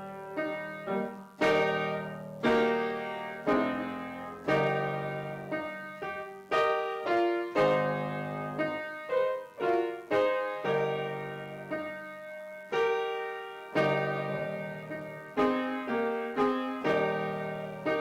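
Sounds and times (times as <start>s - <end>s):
piano chords played slowly: 0.0s - 18.0s.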